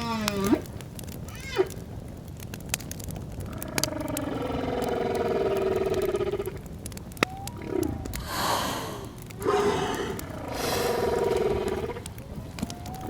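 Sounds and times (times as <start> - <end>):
whale calls: 0.0 - 0.7, 1.3 - 1.8, 3.5 - 13.0
campfire crackling: 0.0 - 13.0.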